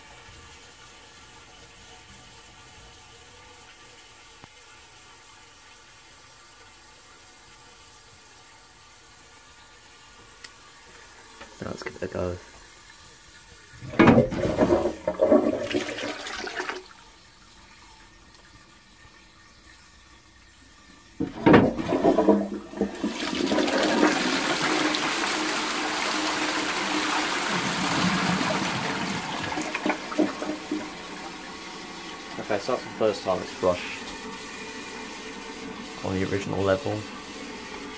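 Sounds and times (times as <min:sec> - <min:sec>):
water rushing down flushpipe: 0:00.0 - 0:37.9.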